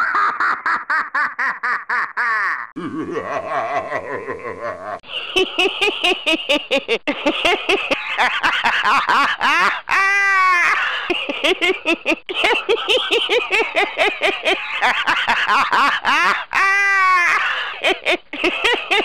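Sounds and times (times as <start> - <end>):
lower-pitched laugh: 0.0 - 19.0
fast high-pitched laugh: 3.5 - 19.0.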